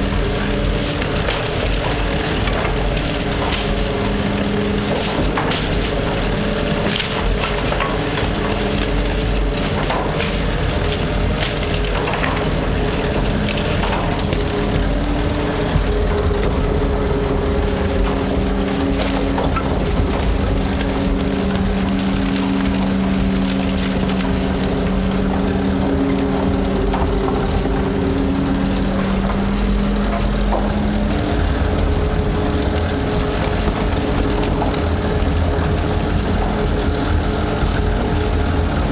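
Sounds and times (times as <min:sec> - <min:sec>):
garbage truck engine and hydraulics: 0:00.0 - 0:38.9.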